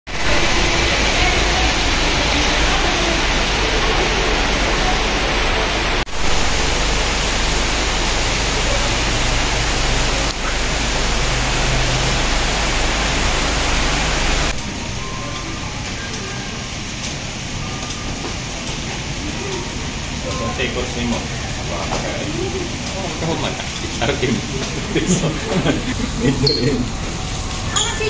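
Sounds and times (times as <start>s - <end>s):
heavy rain falling: 0.1s - 28.0s.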